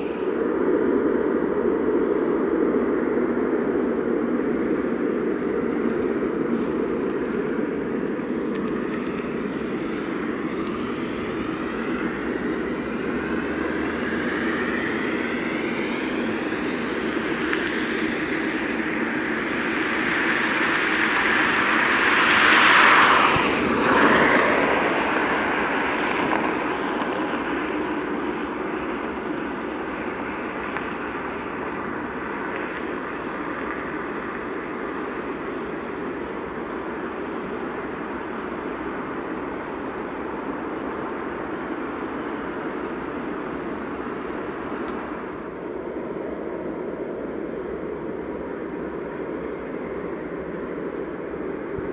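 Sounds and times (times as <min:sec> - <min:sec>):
jet airliner engine noise: 0:00.0 - 0:51.9.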